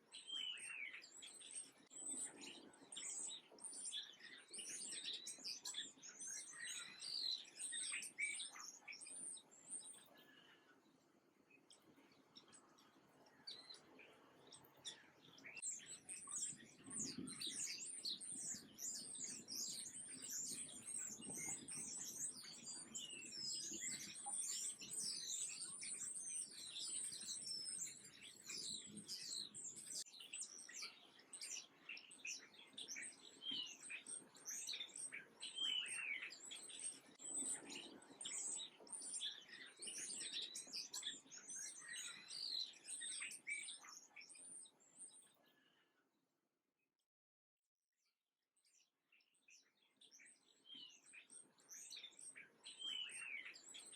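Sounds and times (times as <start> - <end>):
small birds chirping: 0.0 - 46.1, 48.6 - 53.9.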